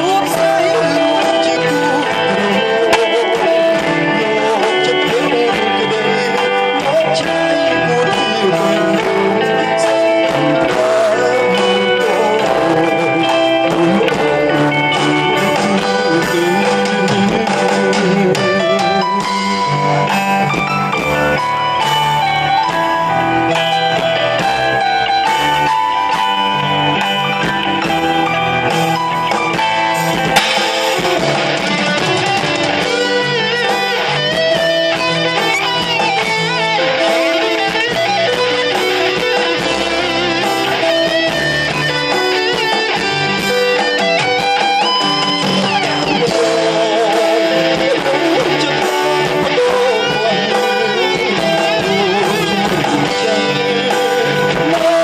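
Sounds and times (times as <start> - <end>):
band playing pop song: 0.0 - 55.0.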